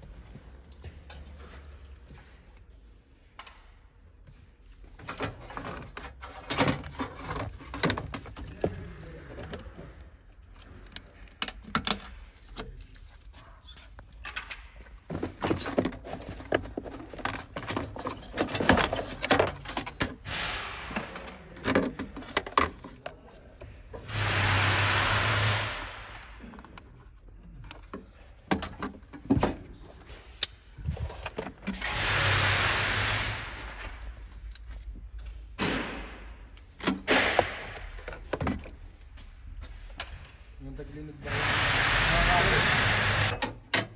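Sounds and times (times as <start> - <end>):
hands handling metal and plastic parts: 0.0 - 24.1, 25.7 - 31.9, 33.7 - 35.6, 36.4 - 40.6.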